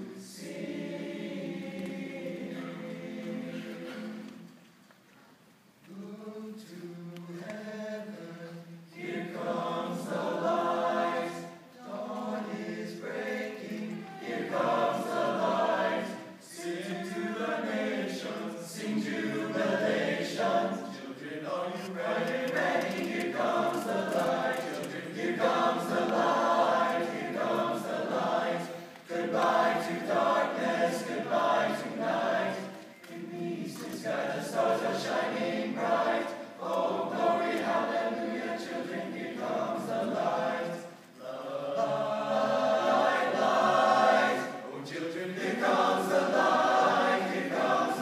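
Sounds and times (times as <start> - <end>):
male choir singing: 0.0 - 4.5, 5.9 - 48.0.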